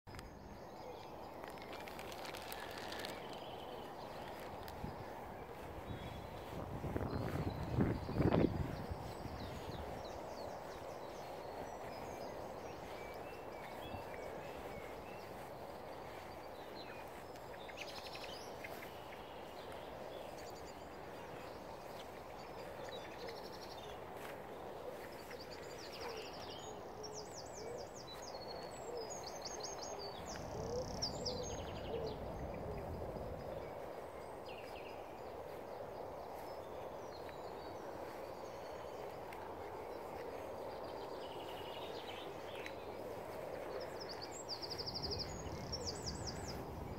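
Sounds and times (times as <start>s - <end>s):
songbirds chirping and trilling: 0.1s - 46.9s.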